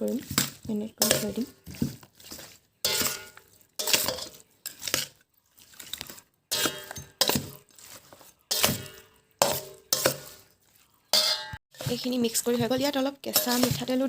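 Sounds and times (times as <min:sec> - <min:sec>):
utensil clinking against a bowl: 0:00.3 - 0:05.2, 0:05.8 - 0:14.0.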